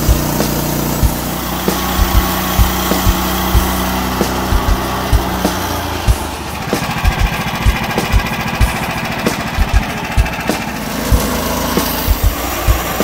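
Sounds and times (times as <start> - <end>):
short low thumps: 0.0 - 10.5
petrol engine running steadily: 0.0 - 13.0.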